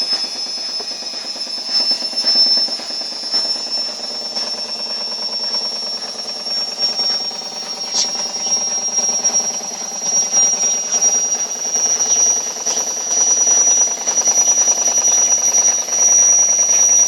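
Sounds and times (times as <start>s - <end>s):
washing machine whine: 0.0s - 17.0s.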